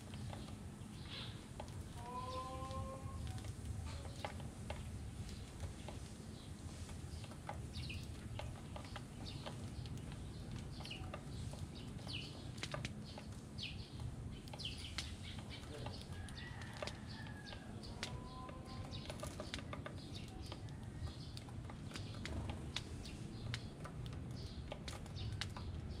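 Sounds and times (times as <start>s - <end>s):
sparrows pecking on plastic tray: 0.0s - 26.0s.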